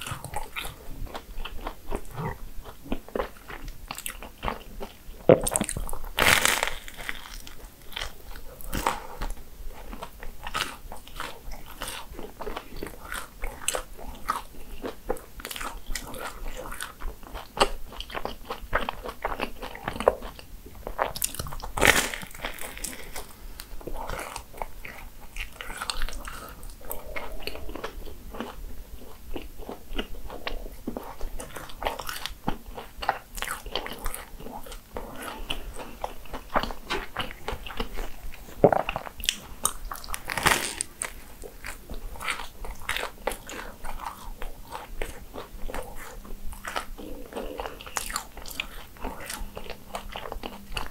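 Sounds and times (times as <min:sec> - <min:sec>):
crunching bites and chewing: 0:00.0 - 0:50.9.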